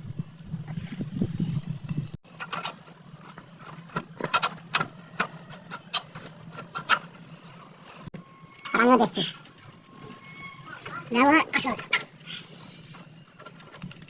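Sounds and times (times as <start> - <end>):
tools and metal parts clicking: 2.3 - 14.0.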